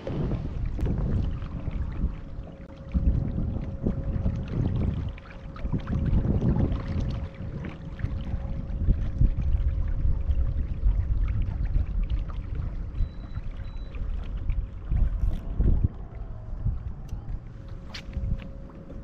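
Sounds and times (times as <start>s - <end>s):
faint steady hum: 0.0s - 19.0s
water lapping against hull: 0.0s - 19.0s
wind buffeting microphone: 0.0s - 19.0s.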